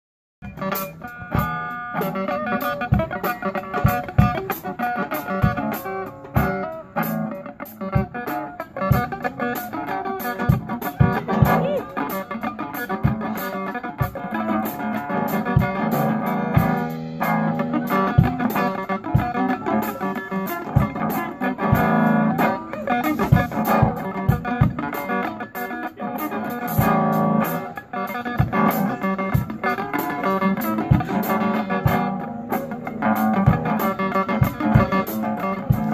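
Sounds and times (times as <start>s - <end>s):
drum kit steady beat: 0.4s - 35.9s
electric guitar through amplifier: 0.4s - 35.9s.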